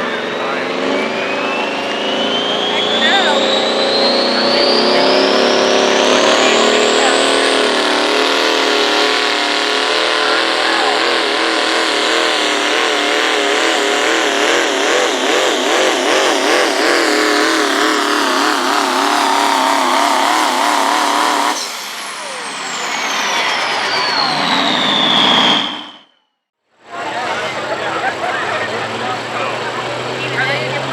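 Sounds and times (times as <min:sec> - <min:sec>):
diesel truck engine at full throttle: 0:00.0 - 0:26.1, 0:26.8 - 0:30.9
high turbo whine: 0:00.0 - 0:26.2.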